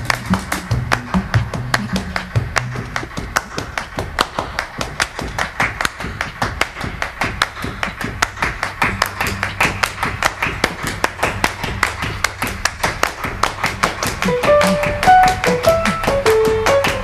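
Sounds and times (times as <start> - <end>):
hand claps: 0.0 - 17.0.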